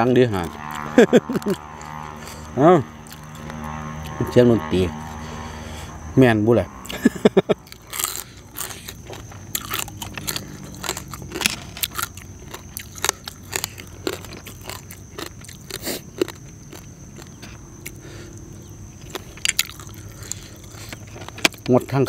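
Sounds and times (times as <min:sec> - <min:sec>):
person crunching crunchy food: 0:00.2 - 0:04.2, 0:06.8 - 0:21.7.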